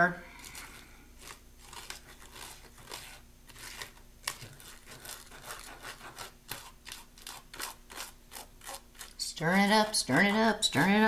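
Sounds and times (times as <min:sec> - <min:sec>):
plastic spoon scraping plastic tray: 0:00.4 - 0:10.0.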